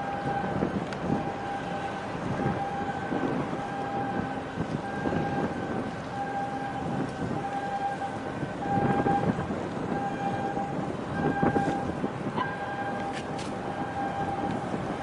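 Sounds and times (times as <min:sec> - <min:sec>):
boat engines droning: 0:00.0 - 0:15.0
wind buffeting microphone: 0:00.0 - 0:15.0.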